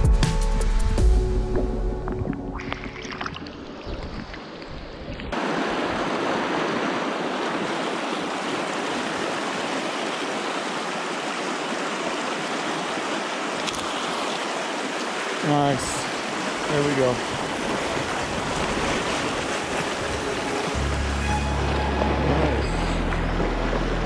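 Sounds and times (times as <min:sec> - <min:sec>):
river water rushing: 0:02.6 - 0:24.0.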